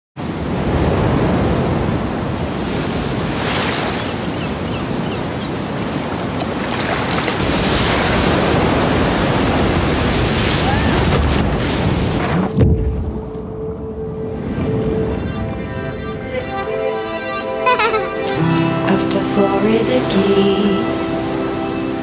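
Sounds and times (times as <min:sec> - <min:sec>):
ocean surf breaking: 0:00.2 - 0:22.0.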